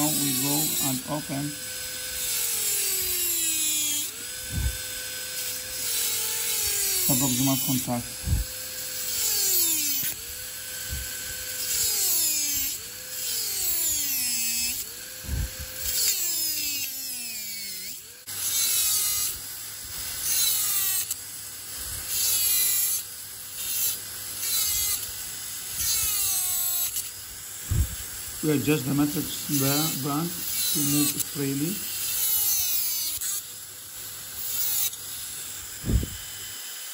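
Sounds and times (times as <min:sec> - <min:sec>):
dental drill whining: 0:00.0 - 0:36.9.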